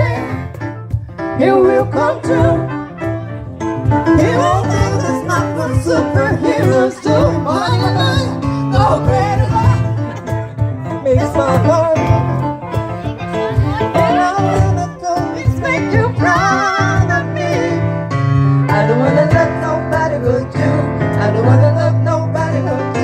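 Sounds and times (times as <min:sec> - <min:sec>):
instrumental backing with bass: 0:00.0 - 0:23.0
voices singing gospel runs: 0:00.0 - 0:23.0.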